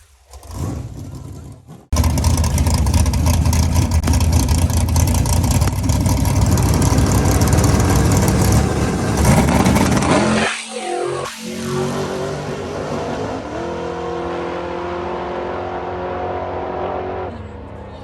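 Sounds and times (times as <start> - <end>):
race car engine revving high: 0.4 - 17.7.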